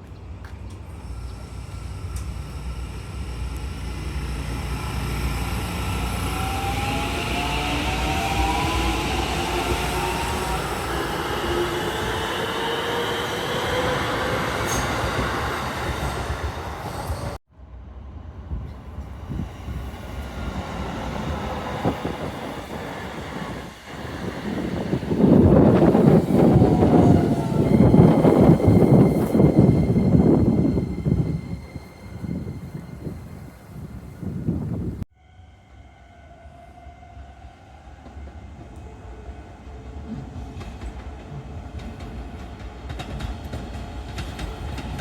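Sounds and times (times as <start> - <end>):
train wheels rumbling on rail: 0.0 - 35.0, 38.0 - 45.0
train whine: 0.3 - 45.0.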